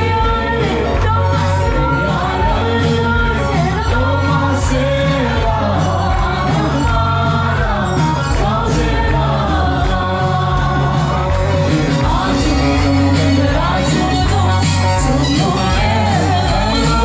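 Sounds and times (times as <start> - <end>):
steady bass: 0.0 - 17.0
voices singing worship music: 0.0 - 17.0.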